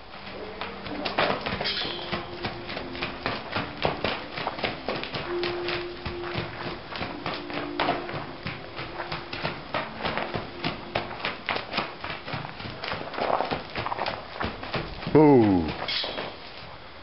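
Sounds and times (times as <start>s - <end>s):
horse hoofbeats trotting on dirt: 0.0s - 17.0s.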